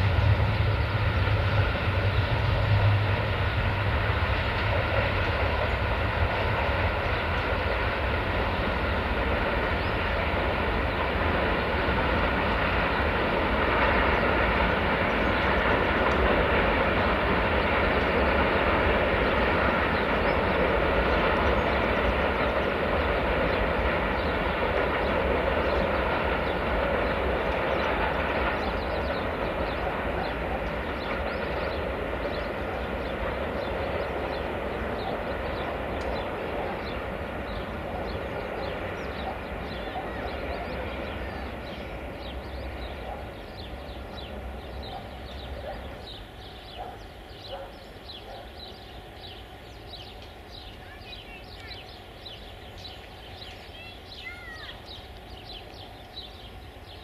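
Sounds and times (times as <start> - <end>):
freight train rolling: 0.0 - 57.0.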